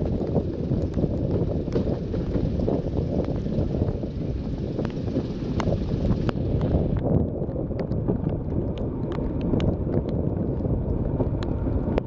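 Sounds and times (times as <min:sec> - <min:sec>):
diesel train engine rumble: 0:00.0 - 0:12.0
wheels clicking over rail joints: 0:00.0 - 0:12.0
wind buffeting microphone: 0:00.0 - 0:12.0.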